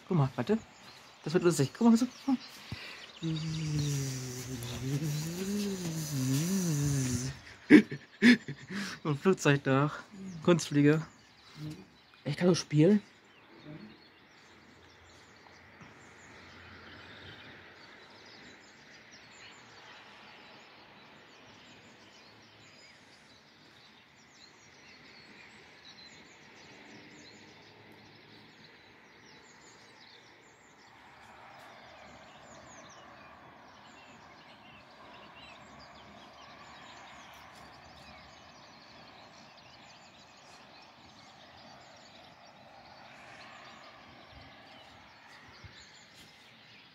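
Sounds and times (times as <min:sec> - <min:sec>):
faint bird chirps: 0:00.0 - 0:46.9
outdoor background noise: 0:00.0 - 0:46.9.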